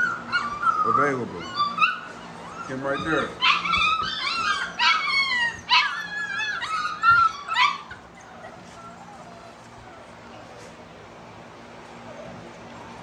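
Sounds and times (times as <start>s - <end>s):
puppies whining and yipping: 0.0s - 11.1s, 11.7s - 13.0s.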